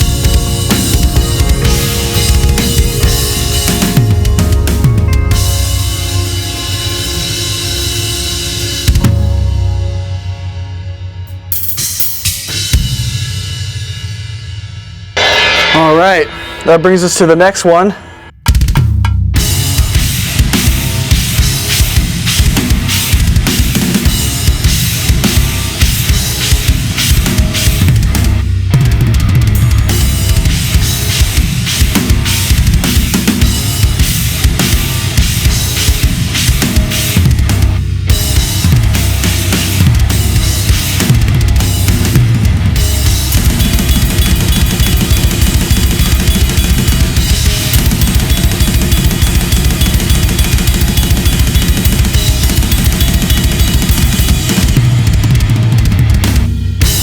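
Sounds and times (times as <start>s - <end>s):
drum kit playing: 0.0s - 57.0s
heavy rock backing track: 0.0s - 57.0s.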